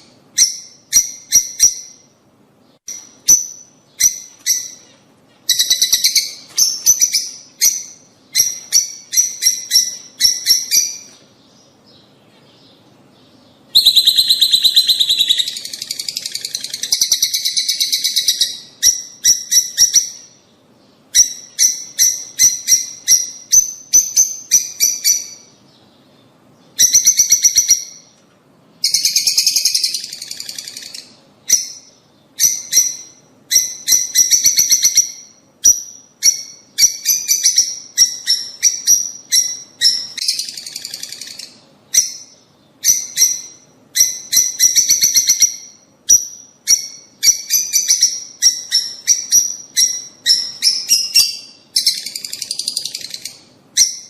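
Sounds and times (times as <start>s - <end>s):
lovebirds chirping and chattering: 0.0s - 28.2s, 28.8s - 54.0s.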